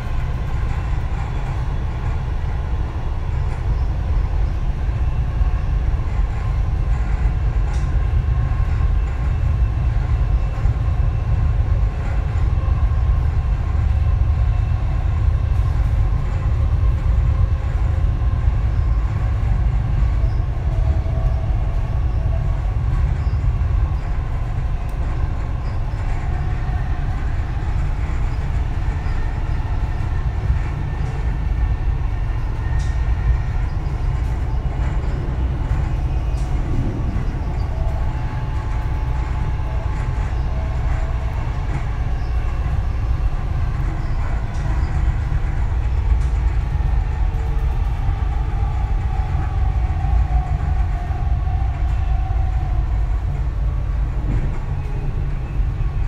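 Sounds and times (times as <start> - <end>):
faint high hum: 0.0 - 56.0
train rumbling at speed: 0.0 - 56.0.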